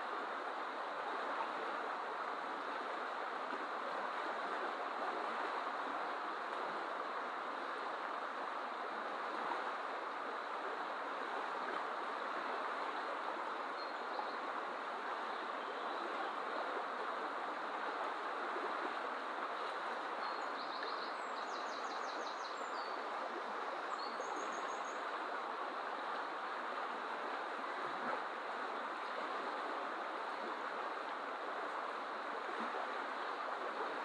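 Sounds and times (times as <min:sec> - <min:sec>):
river rushing: 0:00.0 - 0:34.0.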